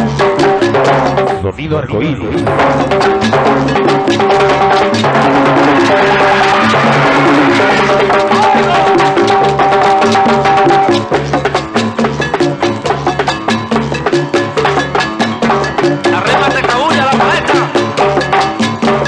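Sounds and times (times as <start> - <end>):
hand percussion: 0.0 - 19.0
salsa music: 0.0 - 19.0
wood-block strikes: 0.0 - 19.0.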